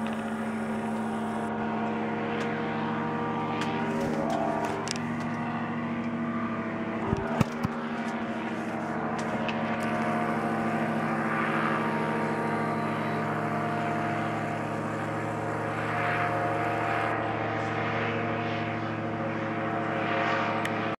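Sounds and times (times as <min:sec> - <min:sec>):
paramotor engine droning overhead: 0:00.0 - 0:21.0.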